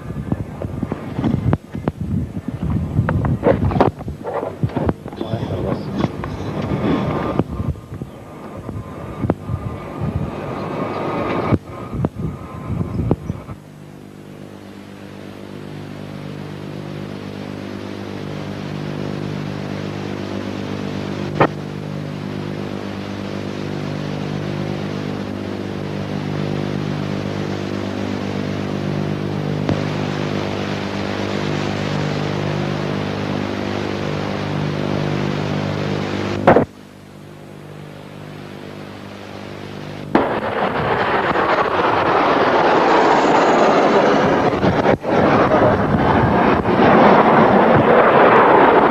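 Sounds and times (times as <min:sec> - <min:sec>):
jet engines droning: 0:00.0 - 0:48.9.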